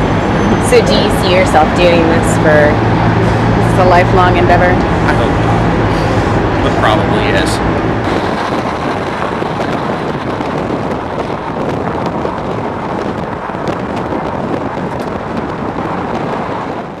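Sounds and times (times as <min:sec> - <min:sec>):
vehicle rumble: 0:00.0 - 0:17.0
wind noise on microphone: 0:00.0 - 0:17.0.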